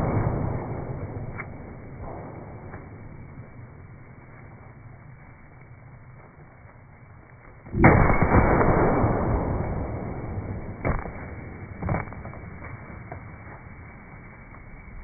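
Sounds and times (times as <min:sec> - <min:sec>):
firework explosions: 0:00.0 - 0:15.0.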